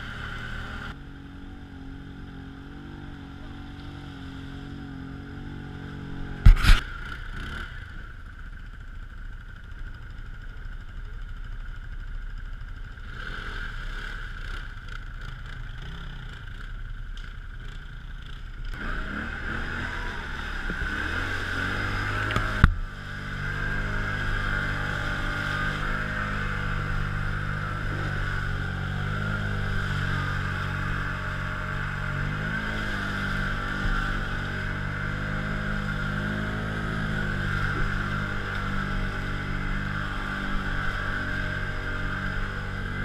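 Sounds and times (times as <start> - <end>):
quad bike engine under load: 0.0 - 43.0.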